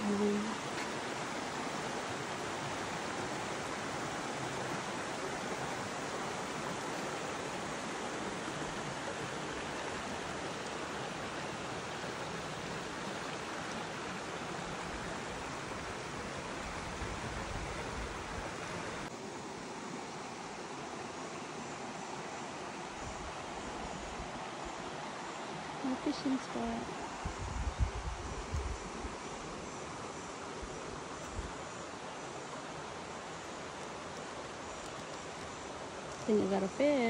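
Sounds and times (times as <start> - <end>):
mountain stream rushing: 0.0 - 37.0.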